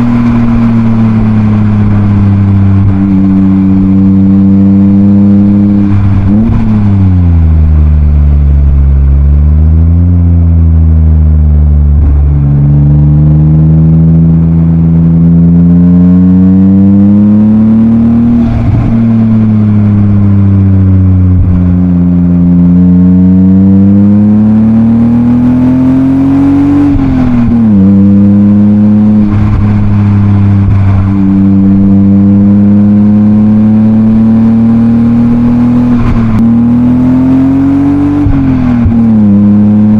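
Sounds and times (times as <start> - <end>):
car exhaust accelerating through gears: 0.0 - 39.9.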